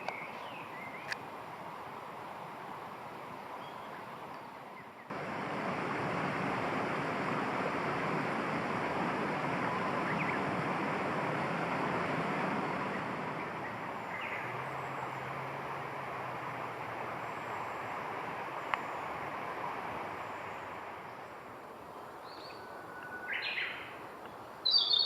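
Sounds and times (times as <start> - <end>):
steady rushing outdoor noise: 0.0 - 25.0.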